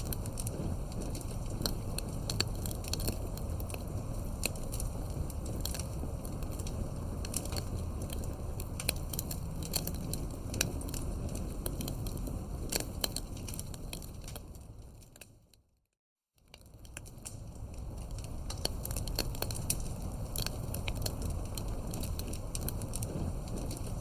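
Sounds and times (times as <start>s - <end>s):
campfire crackling and popping: 0.0s - 15.6s, 16.4s - 24.0s
low rumble of flames: 0.0s - 15.8s, 16.4s - 24.0s.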